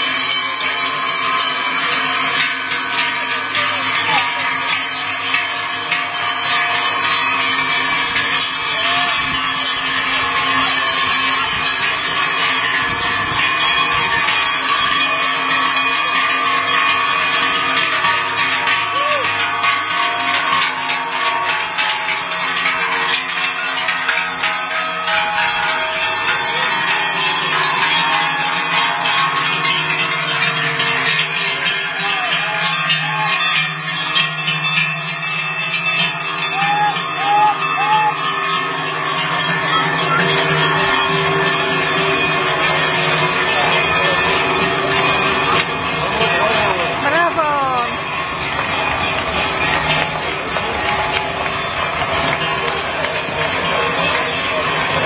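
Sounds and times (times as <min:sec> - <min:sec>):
cowbells clanging: 0:00.0 - 0:55.0.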